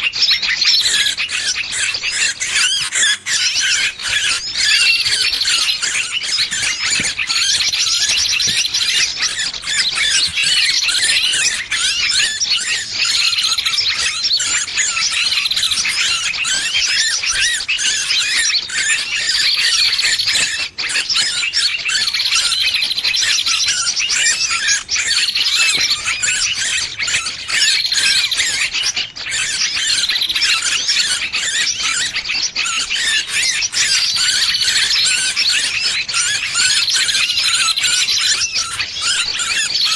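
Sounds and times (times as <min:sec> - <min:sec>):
bird distress squealing: 0:00.0 - 0:39.9.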